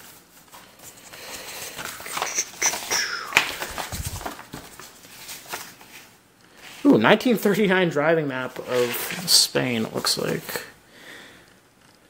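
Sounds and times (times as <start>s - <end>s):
paper map rustling and crackling: 0.0s - 7.6s, 8.4s - 10.6s.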